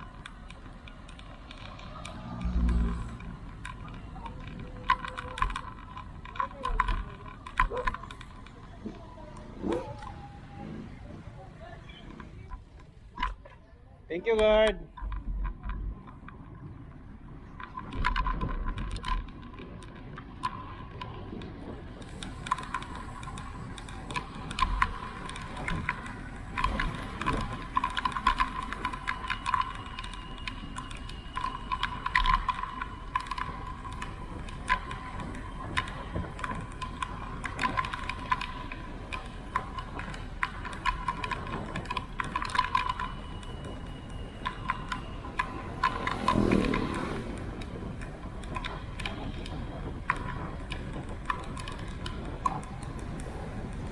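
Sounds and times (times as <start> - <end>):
bicycle parts rattling and clicking: 0.0 - 10.2, 14.2 - 53.9
wind rumbling on microphone: 0.0 - 53.9.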